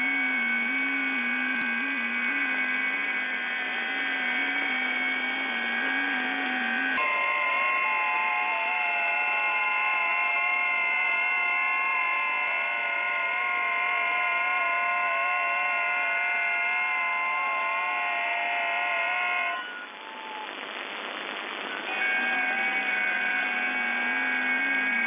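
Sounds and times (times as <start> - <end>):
digital radio signal tones: 0.0 - 25.0
receiver hiss: 0.0 - 25.0.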